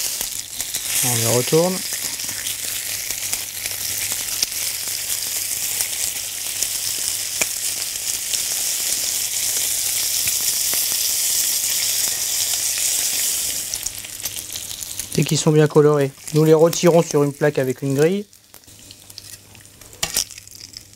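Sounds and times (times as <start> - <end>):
pork sizzling in a frying pan: 0.0 - 20.9.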